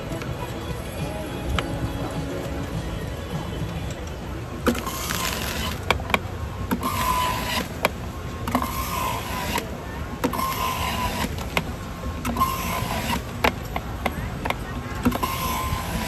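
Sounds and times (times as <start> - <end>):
juice extractor whining and shredding: 0.0 - 16.0.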